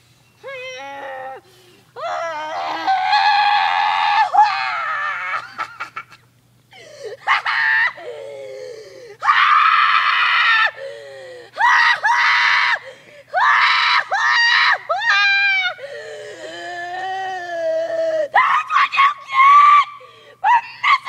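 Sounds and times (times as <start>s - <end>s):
boy screaming: 0.5s - 5.6s, 7.2s - 8.6s, 9.2s - 10.8s, 11.6s - 12.8s, 13.4s - 21.0s.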